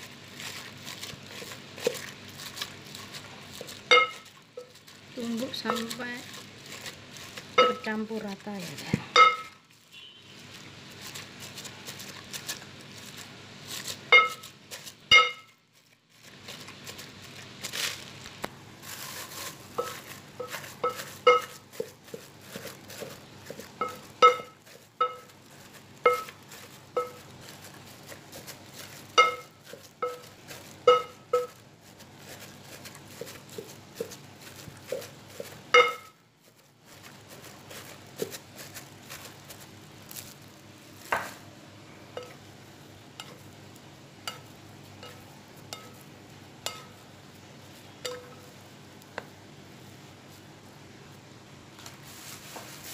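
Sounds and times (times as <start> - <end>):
plastic crinkling and squishing: 0.0 - 52.9.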